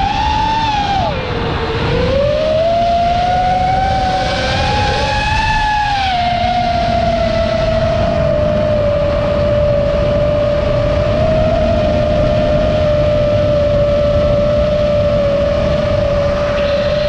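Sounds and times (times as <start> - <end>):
drone motors whining: 0.0 - 17.0
wind noise on microphone: 0.0 - 17.0.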